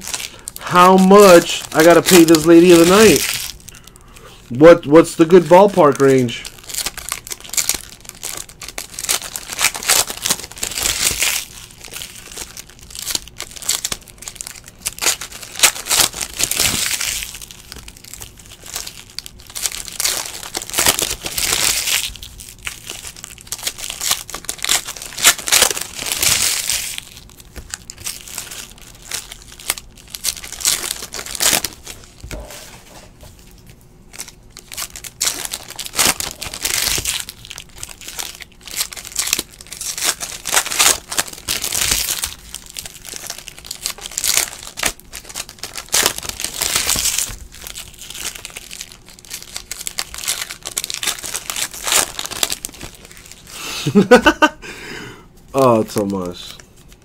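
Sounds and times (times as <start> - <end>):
foil wrappers crinkling and tearing: 0.0 - 54.6, 55.6 - 57.0.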